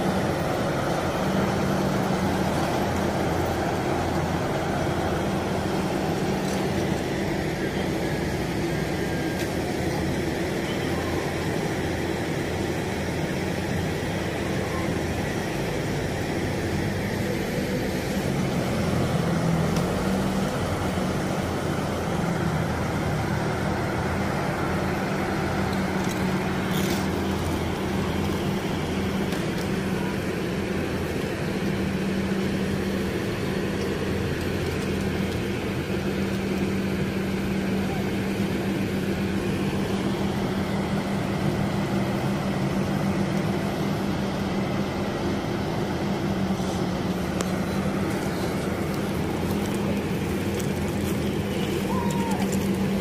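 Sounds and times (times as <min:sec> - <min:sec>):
engine humming: 0:00.0 - 0:53.0
street traffic: 0:00.0 - 0:53.0.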